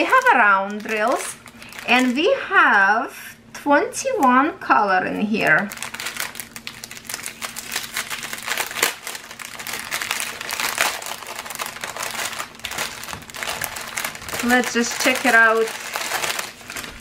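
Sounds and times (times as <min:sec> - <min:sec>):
plastic bag crinkling: 0:00.0 - 0:02.8, 0:05.1 - 0:17.0.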